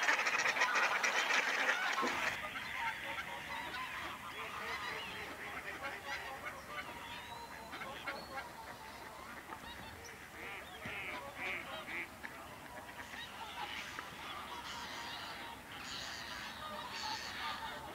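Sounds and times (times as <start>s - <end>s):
flock of birds calling: 0.0s - 17.9s.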